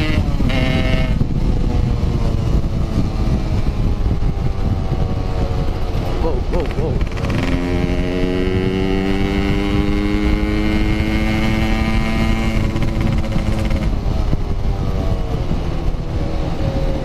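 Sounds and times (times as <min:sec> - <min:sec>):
motorcycle engine pulling hard: 0:00.0 - 0:17.0
wind rushing over microphone: 0:00.0 - 0:17.0.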